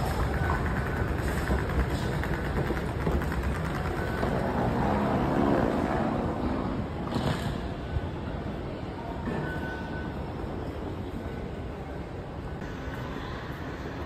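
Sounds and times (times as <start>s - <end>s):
subway station rumble and hiss: 0.0s - 14.0s.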